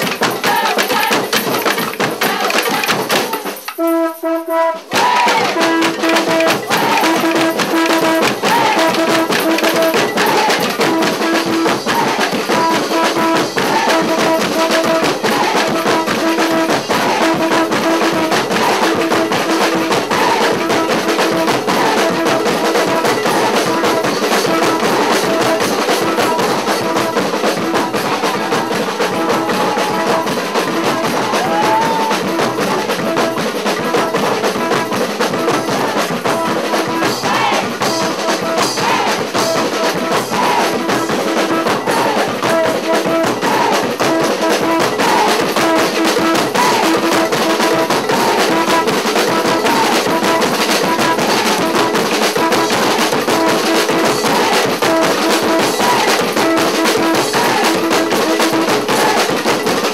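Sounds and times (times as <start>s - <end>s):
hand drums and percussion: 0.0s - 59.9s.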